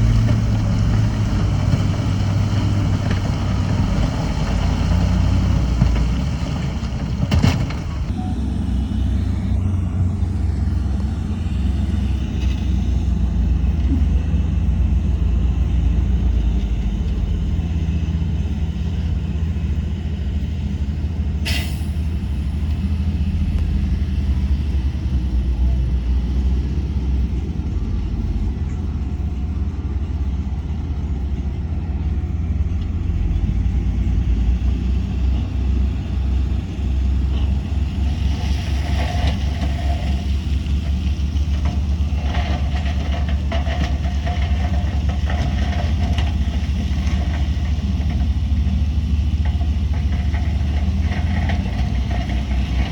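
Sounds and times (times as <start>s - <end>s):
diesel machinery droning: 0.0s - 52.9s.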